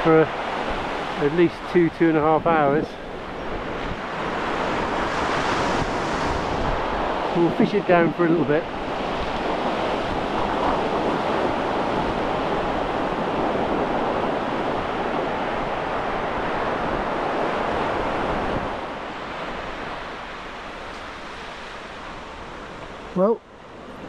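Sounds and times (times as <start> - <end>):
small waves washing on sand: 0.0 - 24.0
wind on microphone: 0.0 - 24.0.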